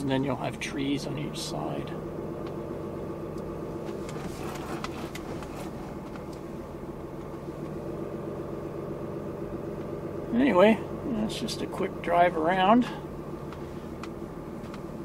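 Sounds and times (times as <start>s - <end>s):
truck engine and road hum: 0.0s - 15.0s.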